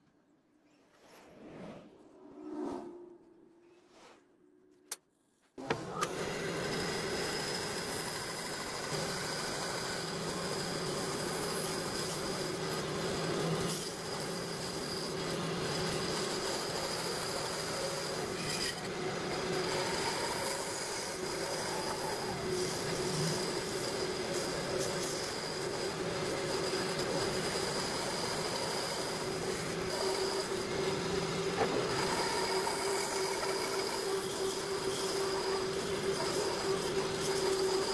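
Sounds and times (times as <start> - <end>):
power tool cutting wood: 5.8 - 37.9.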